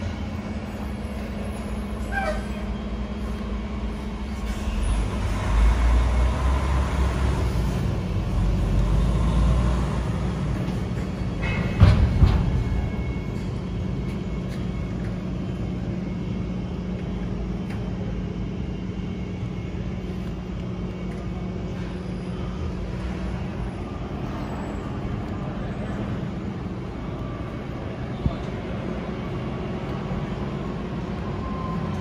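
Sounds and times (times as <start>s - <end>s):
outdoor traffic noise: 0.0s - 32.0s
steady engine hum: 0.0s - 32.0s.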